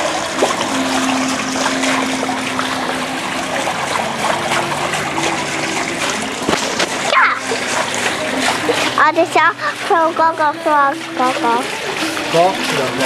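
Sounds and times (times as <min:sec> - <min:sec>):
running and splashing water: 0:00.0 - 0:13.0.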